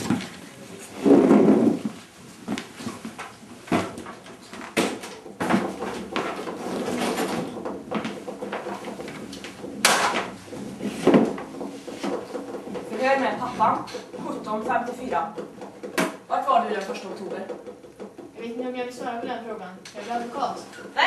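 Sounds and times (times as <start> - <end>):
knocks and clatter: 0.0 - 19.4.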